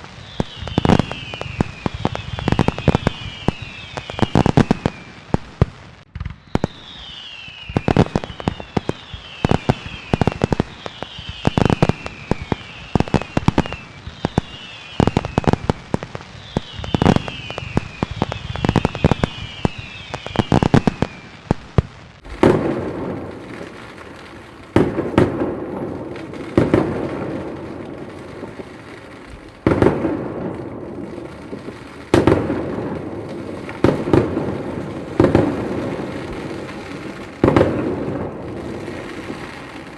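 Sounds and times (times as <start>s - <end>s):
firework whistles falling in pitch: 0.0s - 21.6s, 22.2s - 39.9s
firework bangs: 0.0s - 39.9s
firework booms: 0.0s - 39.9s.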